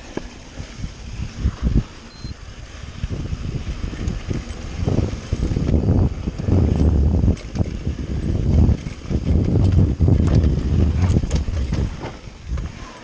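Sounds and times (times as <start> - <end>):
bike rattling: 0.0 - 13.0
tyres rumbling on dirt: 0.0 - 13.0
wind buffeting microphone: 0.0 - 13.0.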